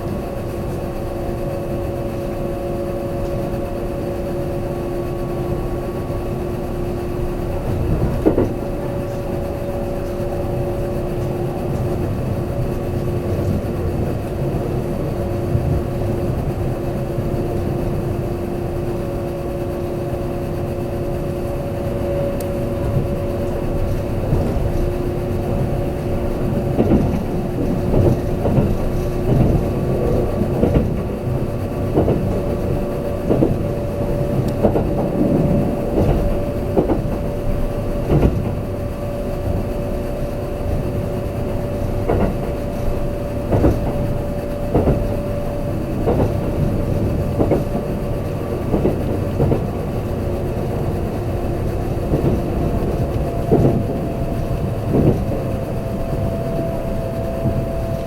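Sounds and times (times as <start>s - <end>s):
train running rumble: 0.0s - 58.0s.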